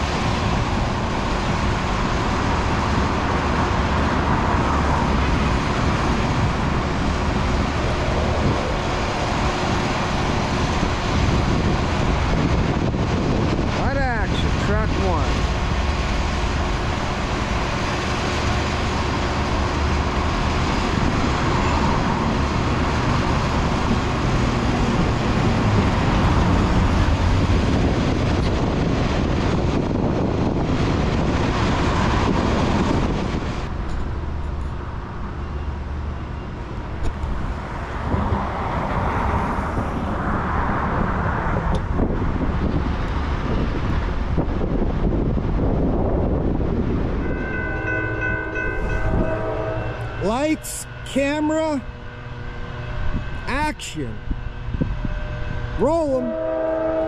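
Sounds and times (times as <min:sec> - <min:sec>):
background traffic: 0:00.0 - 0:57.0
road traffic passing: 0:00.0 - 0:57.0.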